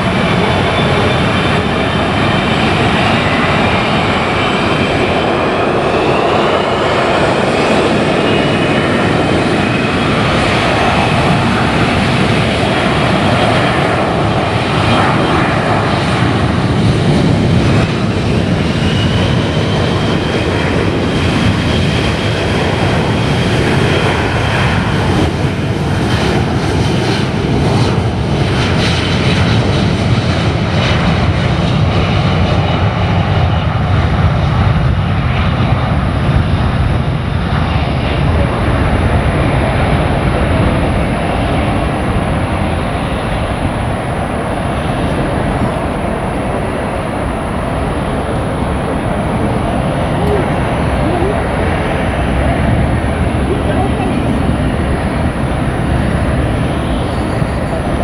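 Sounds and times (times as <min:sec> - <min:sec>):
jet engines at takeoff thrust: 0:00.0 - 0:58.0.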